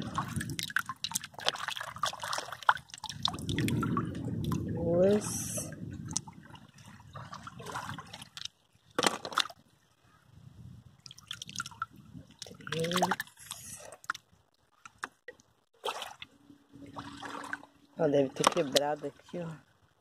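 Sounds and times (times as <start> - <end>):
river water splashing: 0.0 - 9.7, 11.0 - 14.2, 15.8 - 19.8.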